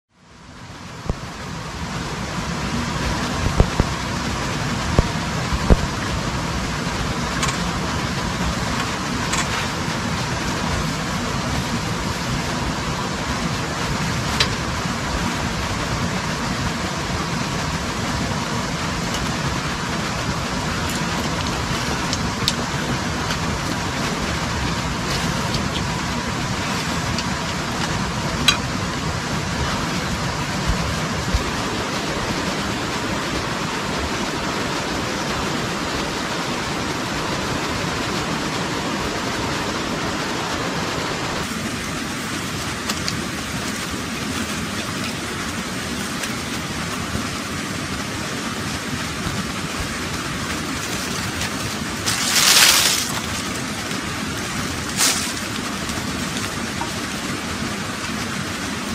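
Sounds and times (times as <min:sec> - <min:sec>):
steady rushing hiss: 0:00.1 - 0:58.9.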